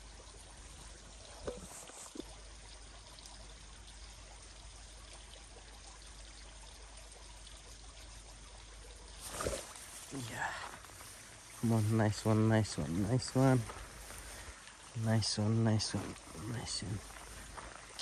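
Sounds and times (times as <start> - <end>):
trickle of running water: 0.0 - 18.0.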